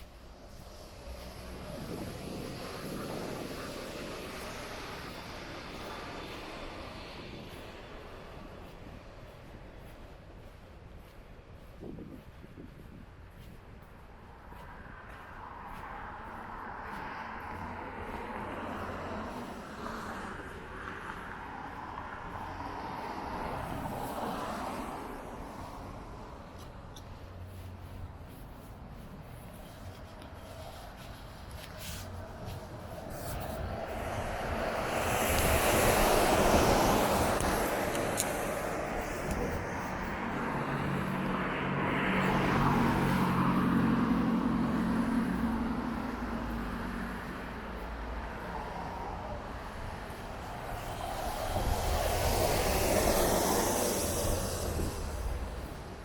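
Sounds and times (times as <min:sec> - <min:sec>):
tyres hissing on wet pavement: 0:00.0 - 0:08.4, 0:16.4 - 0:26.5, 0:29.4 - 0:56.0
vehicle passing: 0:00.0 - 0:56.0.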